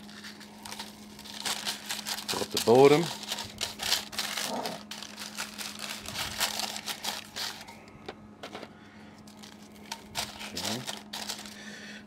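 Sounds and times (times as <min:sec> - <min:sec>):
baking paper rustling: 0:00.0 - 0:07.8, 0:09.3 - 0:11.8.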